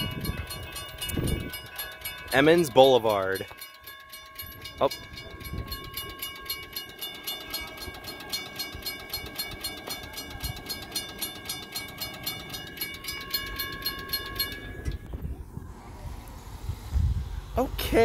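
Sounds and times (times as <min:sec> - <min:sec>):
railroad crossing bells ringing: 0:00.0 - 0:15.4.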